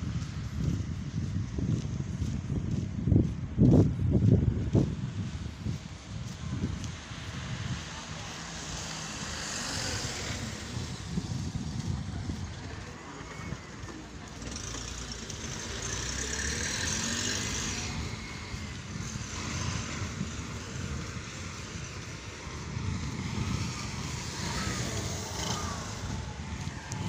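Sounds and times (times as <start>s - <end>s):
outdoor rumble: 0.1s - 27.0s.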